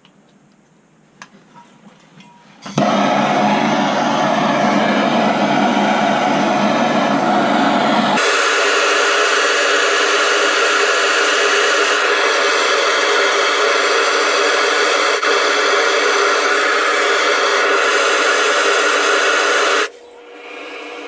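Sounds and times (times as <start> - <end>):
gas torch flame hissing: 2.8 - 21.0.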